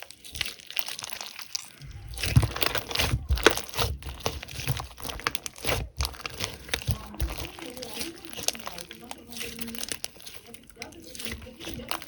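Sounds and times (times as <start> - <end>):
slime squished by hand: 0.0 - 12.0.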